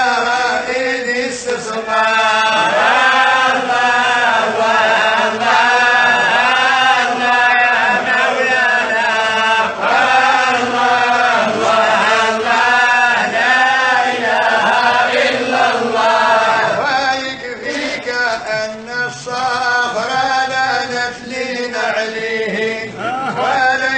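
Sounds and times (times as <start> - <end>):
voices chanting devotional melody: 0.0 - 23.9.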